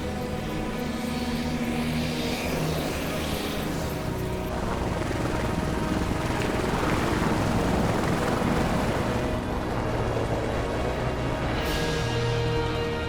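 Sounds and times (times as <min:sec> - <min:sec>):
helicopter rotor and engine: 0:00.0 - 0:13.0
music: 0:00.0 - 0:13.0.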